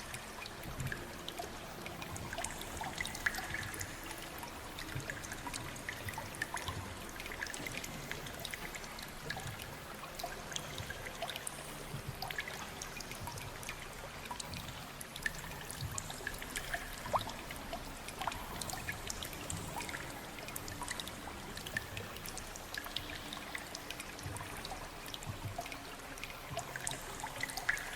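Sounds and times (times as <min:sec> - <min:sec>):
water dripping: 0:00.0 - 0:27.9
water trickling and pouring: 0:00.0 - 0:27.9.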